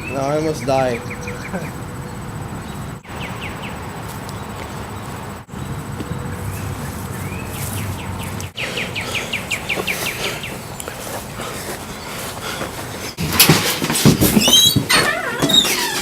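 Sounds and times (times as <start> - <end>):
songbird chirping: 0.0 - 13.2.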